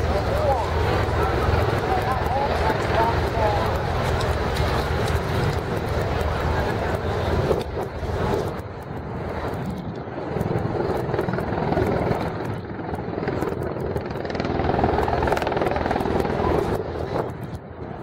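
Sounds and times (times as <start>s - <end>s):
tiltrotor aircraft hovering drone: 0.0s - 18.0s.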